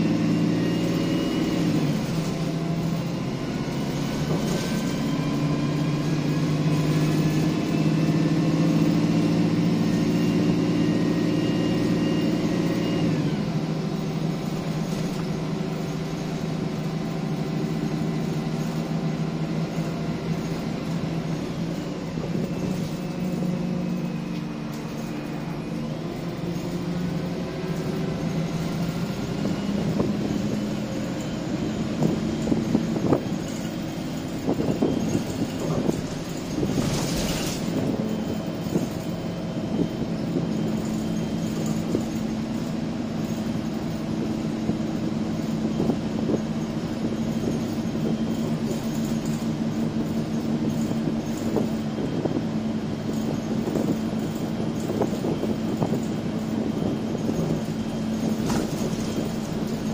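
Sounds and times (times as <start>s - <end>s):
bus diesel engine whining: 0.0s - 59.9s.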